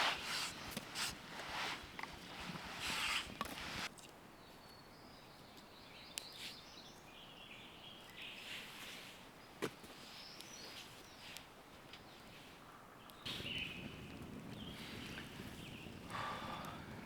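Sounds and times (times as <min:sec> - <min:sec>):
birds chirping: 0:00.0 - 0:08.6, 0:09.3 - 0:17.0.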